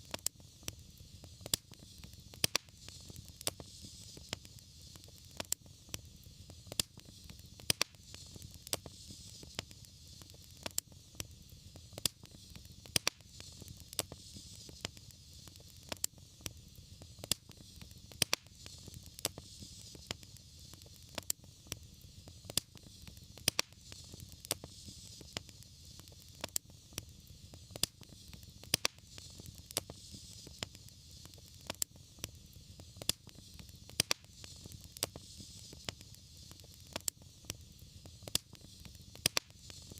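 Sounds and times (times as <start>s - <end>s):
fire crackling and popping: 0.0s - 39.9s
hiss and rumble of flames: 0.0s - 39.9s.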